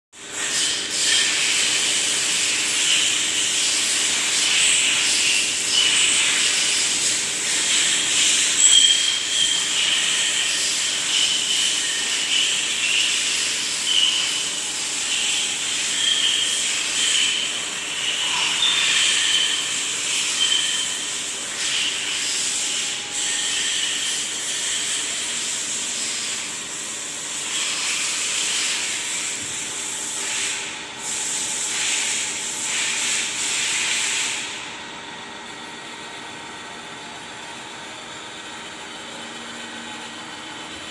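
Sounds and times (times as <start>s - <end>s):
milling machine whining and hissing: 0.2s - 40.9s.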